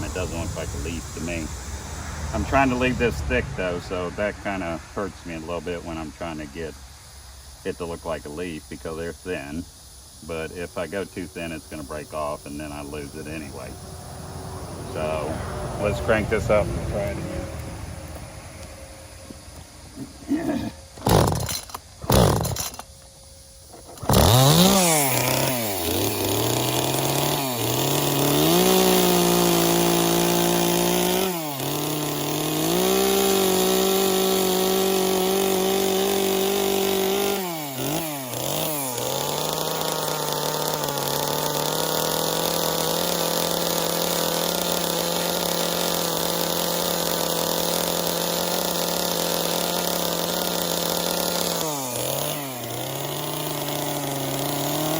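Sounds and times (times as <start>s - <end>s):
chainsaw starting and revving: 0.0s - 4.7s, 7.6s - 9.6s, 10.2s - 23.0s, 23.7s - 54.9s.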